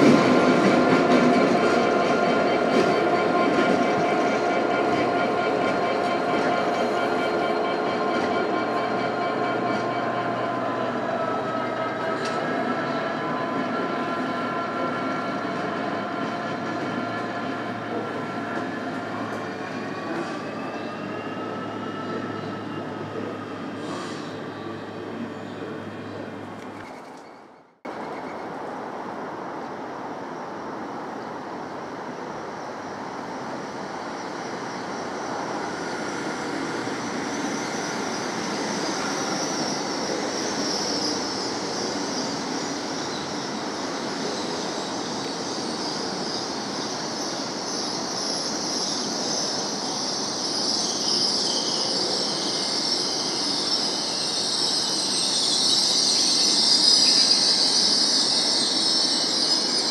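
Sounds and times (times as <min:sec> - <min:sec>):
high train squeal: 0:00.0 - 0:59.9
passenger train rumbling: 0:00.0 - 0:59.9.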